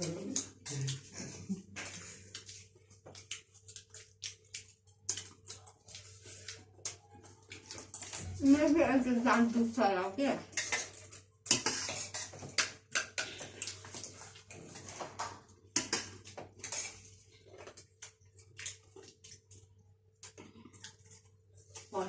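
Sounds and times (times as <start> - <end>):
crunching and chewing: 0.0 - 8.4, 10.7 - 22.0.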